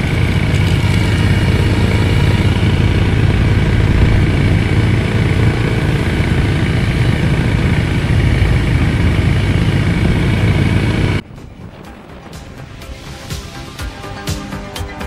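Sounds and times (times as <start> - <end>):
vehicle engine rumbling: 0.0 - 14.6
road noise: 0.0 - 15.0.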